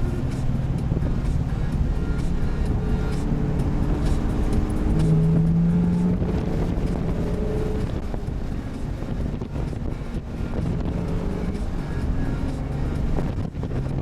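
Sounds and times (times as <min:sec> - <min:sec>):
car engine low drone: 0:00.0 - 0:14.0.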